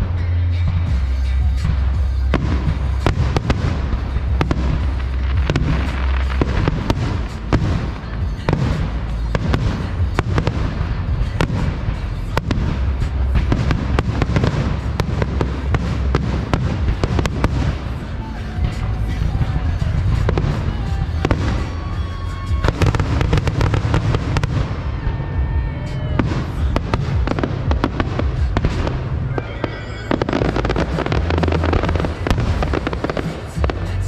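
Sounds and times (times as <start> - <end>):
deep rumble: 0.0 - 34.0
fireworks bangs: 0.0 - 34.0.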